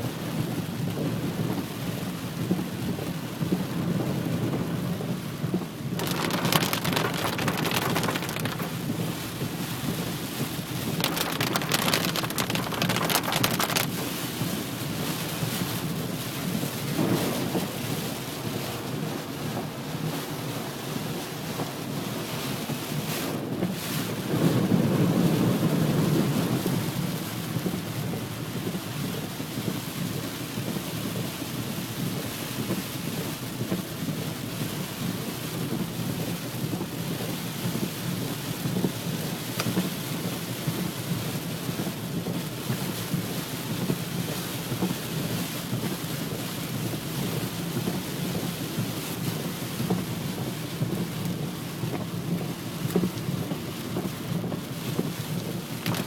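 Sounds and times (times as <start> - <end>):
heavy rain falling: 3.7 - 56.0.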